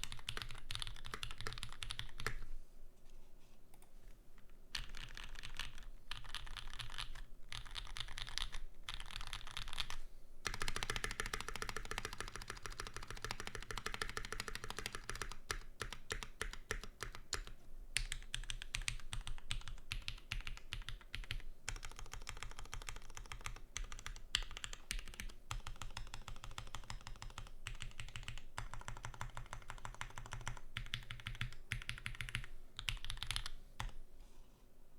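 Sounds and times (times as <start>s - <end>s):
mechanical keyboard typing: 0.0s - 2.4s, 4.7s - 34.0s.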